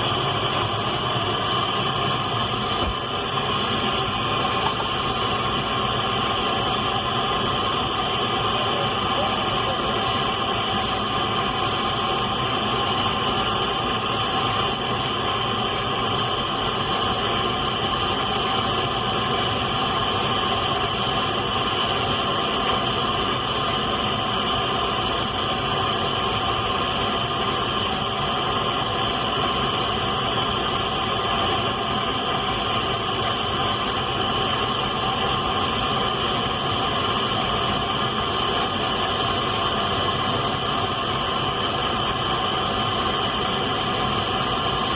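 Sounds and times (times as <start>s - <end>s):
radio static hiss: 0.0s - 44.9s.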